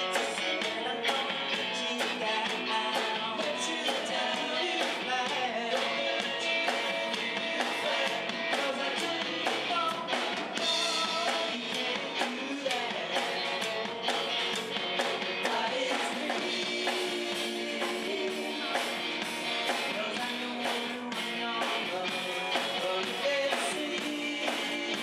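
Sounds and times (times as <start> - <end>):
drum kit beat: 0.0 - 25.0
electric guitars: 0.0 - 25.0.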